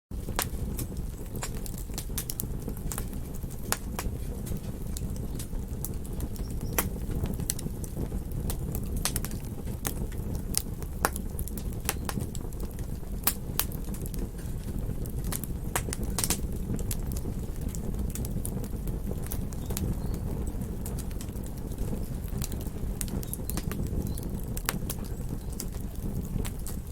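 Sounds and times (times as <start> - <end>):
low rush of flame: 0.1 - 26.9
wood crackling and popping: 0.1 - 26.9.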